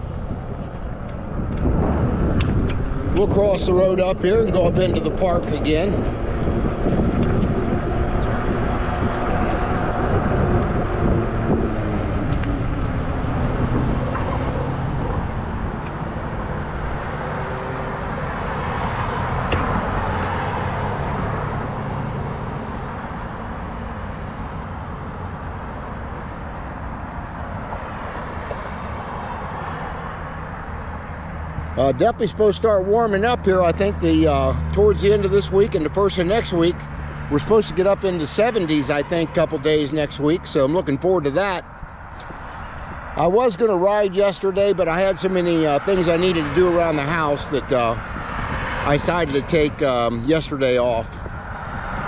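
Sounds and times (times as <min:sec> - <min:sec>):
traffic: 0:00.0 - 0:52.0
wind and road noise: 0:00.0 - 0:52.0.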